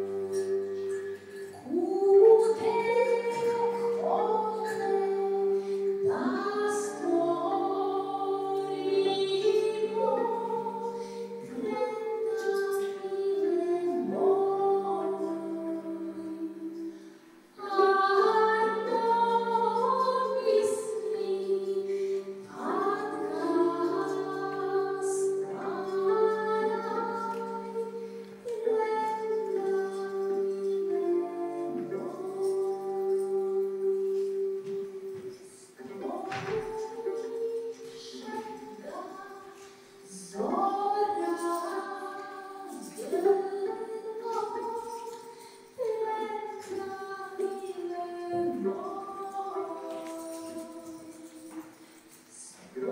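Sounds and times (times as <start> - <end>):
violin: 0.0 - 52.9
woman singing ornamented melody: 0.0 - 52.9.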